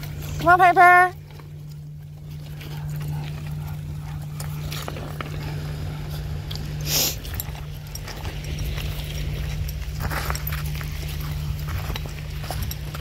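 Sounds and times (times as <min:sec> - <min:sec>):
footsteps on pebbles: 0:00.0 - 0:13.0.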